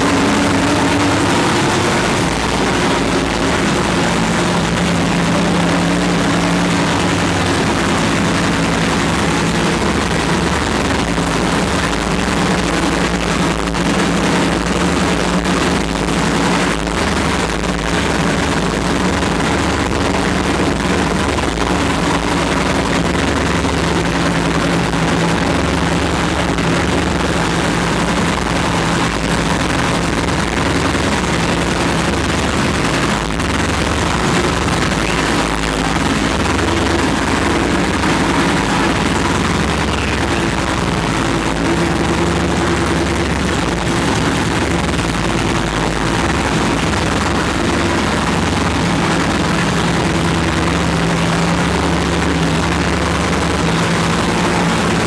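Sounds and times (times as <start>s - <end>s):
racing engine running: 0.0s - 55.0s.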